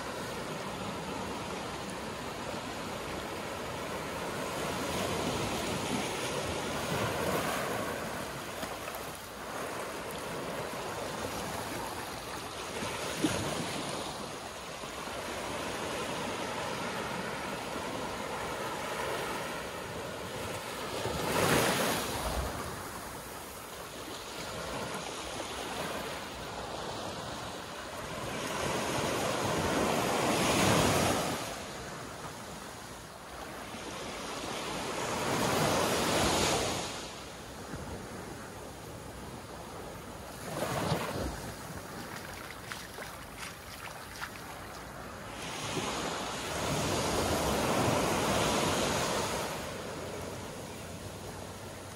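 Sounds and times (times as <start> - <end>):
waves washing up a beach: 0.0 - 51.9.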